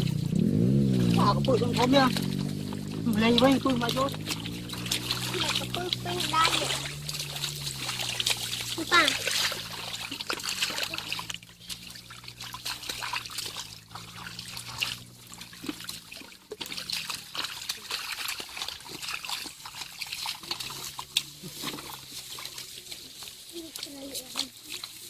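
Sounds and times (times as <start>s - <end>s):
low steady hum: 0.0s - 23.5s
water trickling and splashing: 0.0s - 25.0s.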